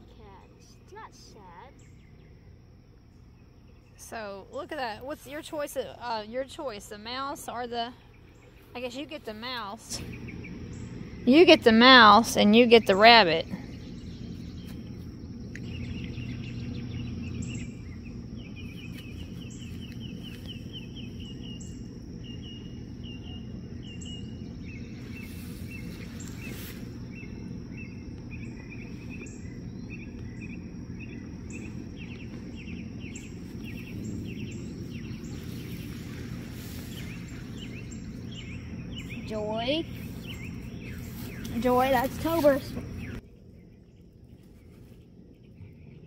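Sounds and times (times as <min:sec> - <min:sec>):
low background rumble: 0:00.0 - 0:46.0
songbird chirping: 0:00.0 - 0:46.0.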